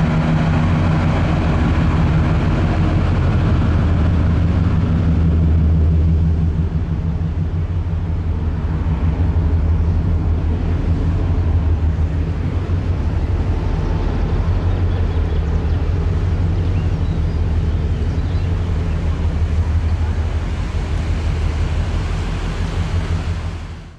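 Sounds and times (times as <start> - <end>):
ship engines low rumble: 0.0 - 23.9.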